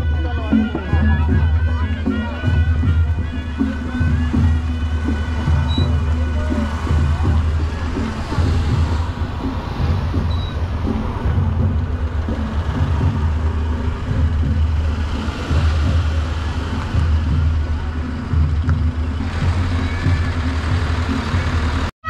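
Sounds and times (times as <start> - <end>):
bus engine idling: 0.0 - 21.9.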